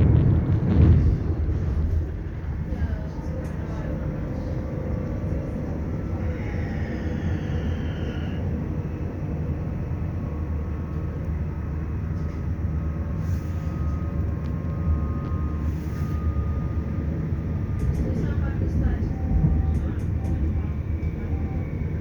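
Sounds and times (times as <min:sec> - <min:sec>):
rising whine: 0:00.0 - 0:17.9
thin steady whine: 0:00.0 - 0:22.0
train wheels rumbling on track: 0:00.0 - 0:22.0.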